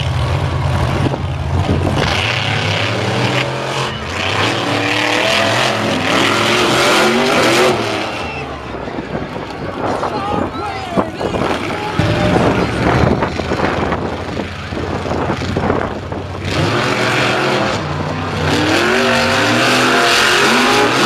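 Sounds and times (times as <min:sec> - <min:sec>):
monster truck engines revving: 0:00.0 - 0:21.0.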